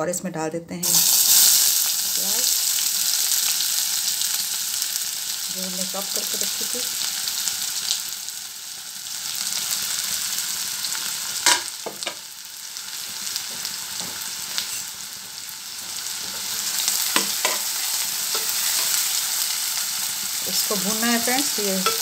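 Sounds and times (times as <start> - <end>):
onions sizzling in hot oil: 0.8 - 22.0.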